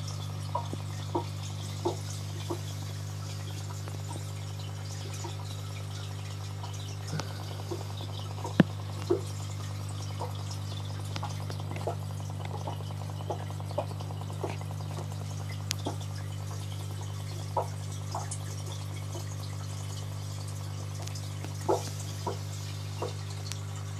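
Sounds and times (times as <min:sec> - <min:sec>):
aquarium filter humming: 0:00.0 - 0:23.9
water drips and plops: 0:00.0 - 0:23.9
water trickling: 0:00.0 - 0:23.9.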